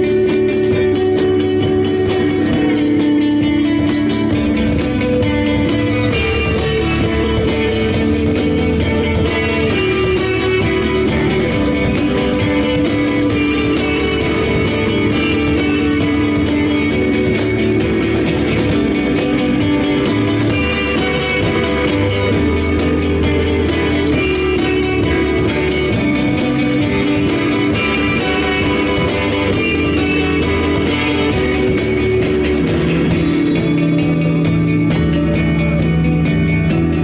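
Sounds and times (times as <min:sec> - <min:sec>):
drum kit beat: 0:00.0 - 0:37.0
electric guitar: 0:00.0 - 0:37.0
keyboards: 0:00.0 - 0:37.0.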